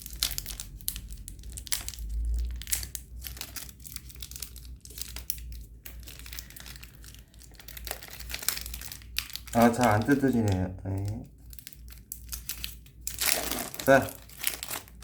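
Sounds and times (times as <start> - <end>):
plastic wrapper crinkling and tearing: 0.0 - 15.0.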